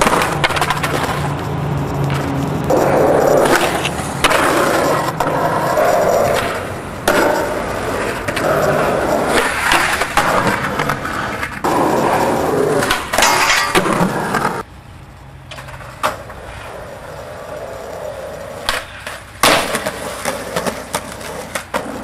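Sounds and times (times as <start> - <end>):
skateboard clacks: 0.0 - 14.7, 15.5 - 22.0
skateboard wheels rolling on concrete: 0.0 - 22.0.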